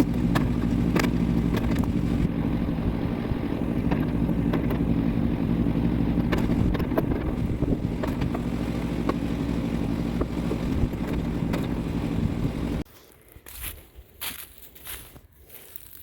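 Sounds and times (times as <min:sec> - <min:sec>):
small gasoline engine running: 0:00.0 - 0:12.8.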